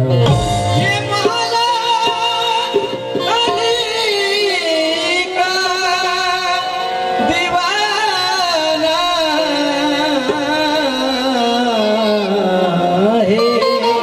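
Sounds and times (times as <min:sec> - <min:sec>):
harmonium chords: 0:00.0 - 0:14.0.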